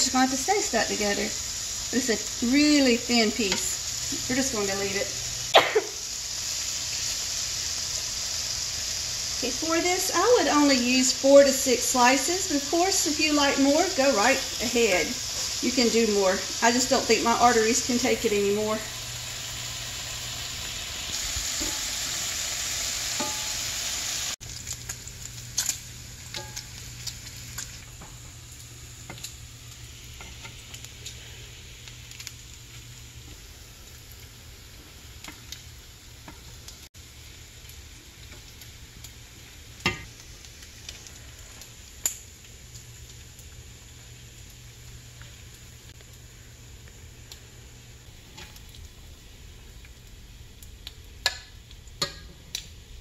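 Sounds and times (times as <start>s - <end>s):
bacon sizzling in grease: 0.0s - 53.0s.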